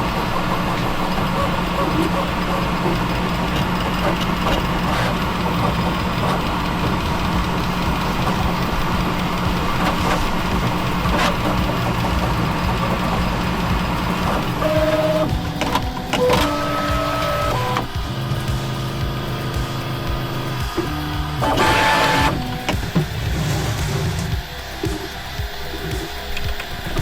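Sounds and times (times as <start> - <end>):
printer fans humming: 0.0 - 27.0
stepper motors singing tones: 0.0 - 27.0.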